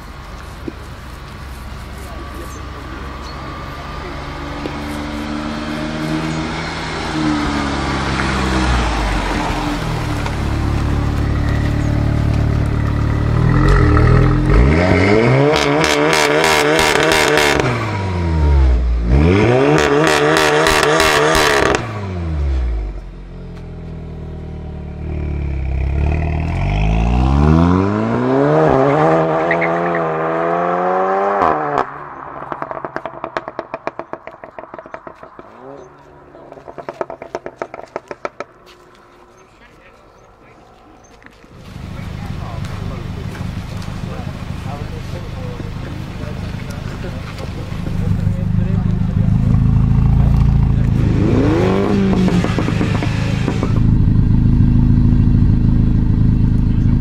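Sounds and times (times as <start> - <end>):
car engine revving loud exhaust: 0.6 - 40.6, 41.2 - 57.0.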